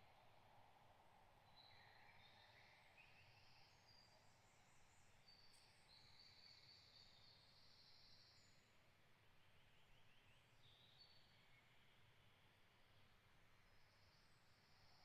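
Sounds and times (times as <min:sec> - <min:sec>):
faint birdsong: 0:00.0 - 0:15.0
forest ambience hiss: 0:00.0 - 0:15.0.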